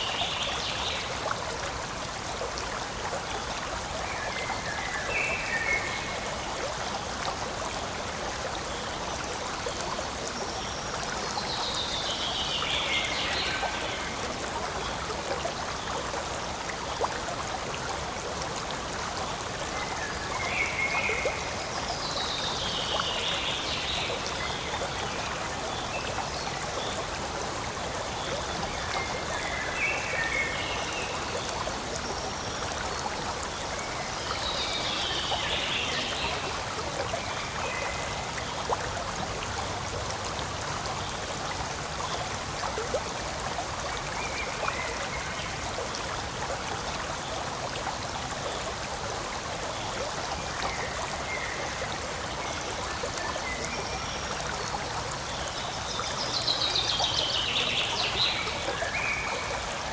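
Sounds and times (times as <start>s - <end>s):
forest stream flowing: 0.0s - 59.9s.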